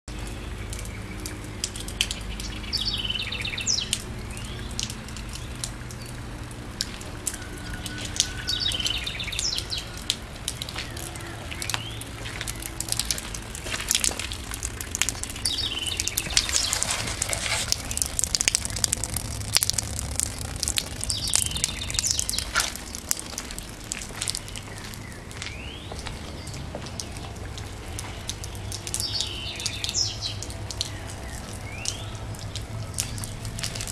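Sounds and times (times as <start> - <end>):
steady low rumble: 0.1 - 33.9
sharp clicks and crackles: 0.2 - 2.9, 3.8 - 33.9.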